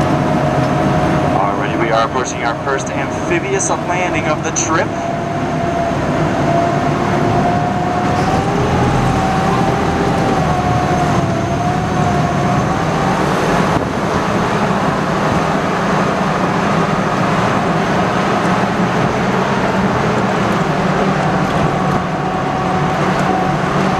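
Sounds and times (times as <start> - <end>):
vehicle engine running under load: 0.0 - 23.9.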